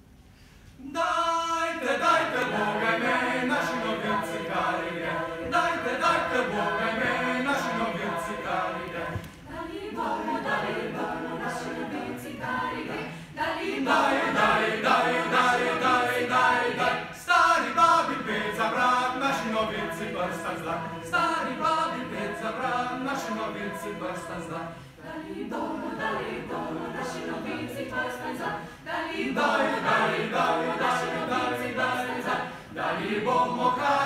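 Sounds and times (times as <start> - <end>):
mixed choir singing a cappella: 0.8 - 34.0.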